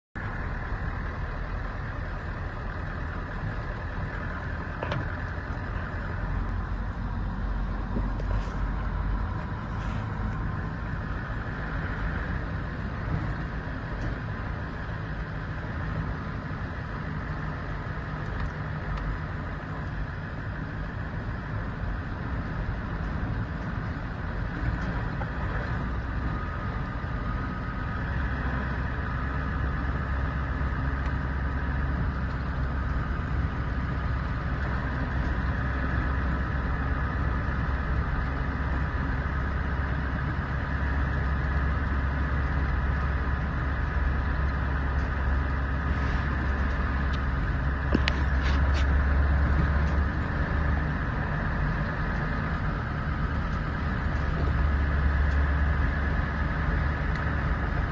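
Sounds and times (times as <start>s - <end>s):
vehicle engine and tyre drone: 0.0s - 57.9s.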